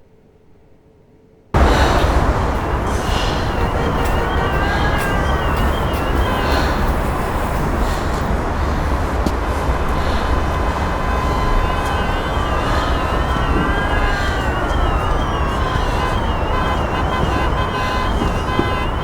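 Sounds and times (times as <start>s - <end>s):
city traffic rumble: 1.6s - 19.0s
fast warbling siren: 1.6s - 19.0s
slow wailing siren: 1.6s - 19.0s.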